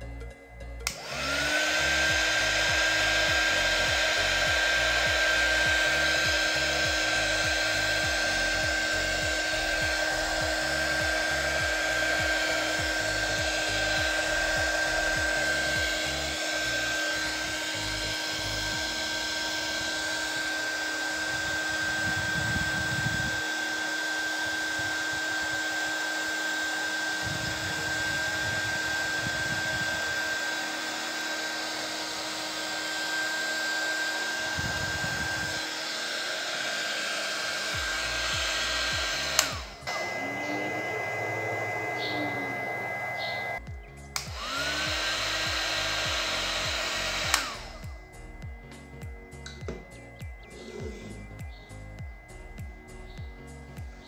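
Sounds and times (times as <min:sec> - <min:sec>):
hot air gun fan whine: 0:00.0 - 0:54.0.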